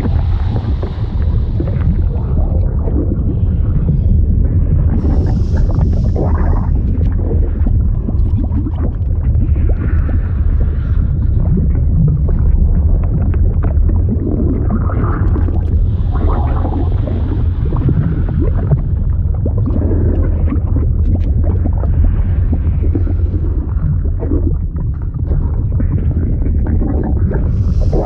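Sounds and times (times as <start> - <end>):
deep rumble: 0.0 - 28.0
liquid bubbling and gurgling: 0.0 - 28.0.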